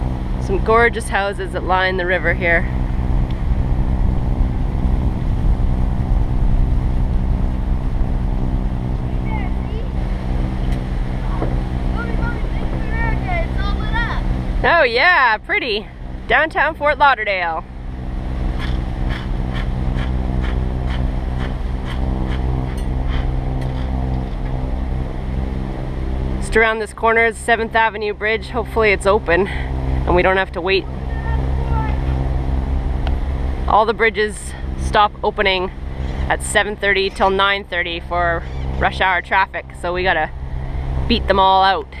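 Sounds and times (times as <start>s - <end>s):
boat engine humming: 0.0s - 42.0s
wind rumbling on microphone: 0.0s - 42.0s.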